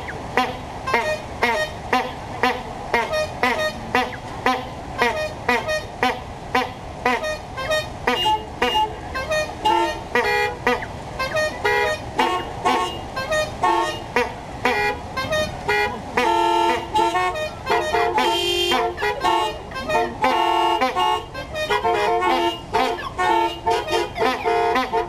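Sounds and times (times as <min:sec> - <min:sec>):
car horns honking in rhythm: 0:00.0 - 0:25.0.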